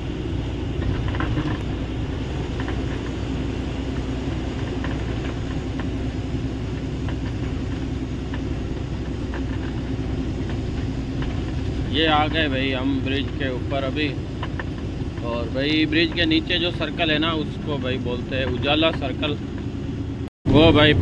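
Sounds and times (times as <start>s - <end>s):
road noise: 0.0s - 21.0s
truck engine rumble: 0.0s - 21.0s
light rattles: 0.2s - 19.8s.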